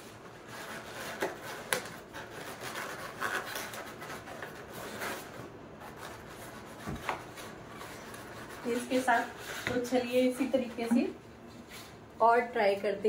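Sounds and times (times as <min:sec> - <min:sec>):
balloon scraping against wall: 0:00.0 - 0:12.0
hands rubbing a latex balloon: 0:00.1 - 0:11.1.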